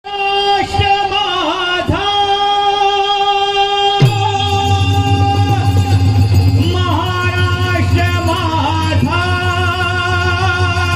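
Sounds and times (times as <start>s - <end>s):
high-pitched man singing long note: 0.0s - 10.9s.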